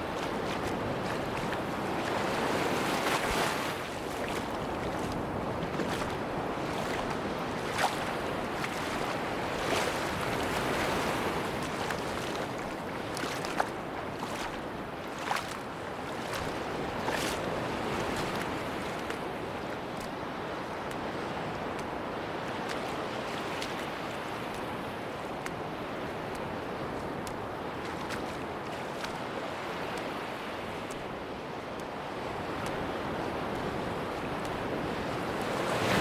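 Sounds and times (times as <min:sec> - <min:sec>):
sea surf washing on beach: 0:00.0 - 0:36.0.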